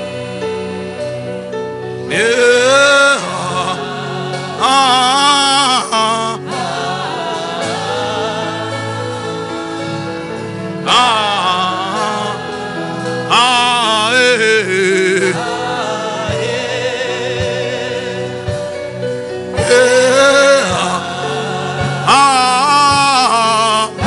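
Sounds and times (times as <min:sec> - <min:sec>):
gospel chords: 0:00.0 - 0:24.0.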